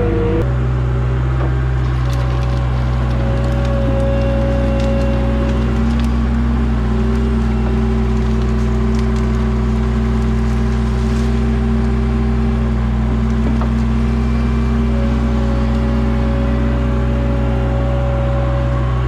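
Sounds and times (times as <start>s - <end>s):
high whine: 0.0s - 19.0s
skid steer engine running: 0.0s - 19.0s.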